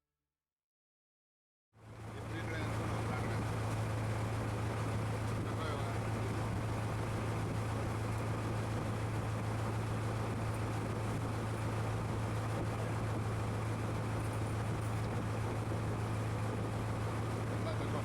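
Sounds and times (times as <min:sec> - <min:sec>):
boat engine droning: 0:01.8 - 0:18.0.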